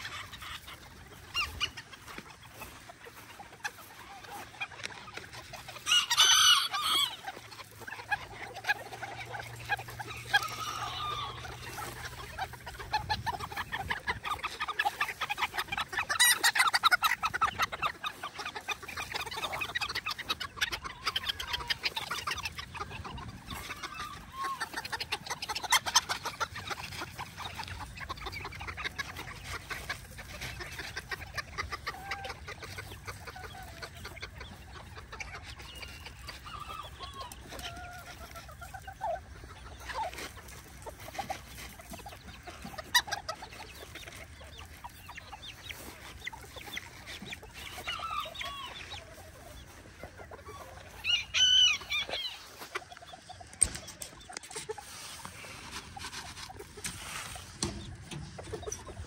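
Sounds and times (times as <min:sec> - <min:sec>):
chicken calls: 0:00.0 - 0:59.0
chickens clucking: 0:00.0 - 0:59.0.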